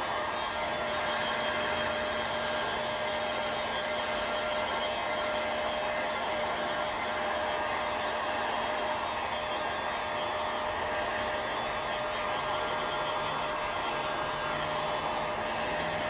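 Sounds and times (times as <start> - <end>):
fan motor whine: 0.0 - 16.0
heat gun blowing air: 0.0 - 16.0.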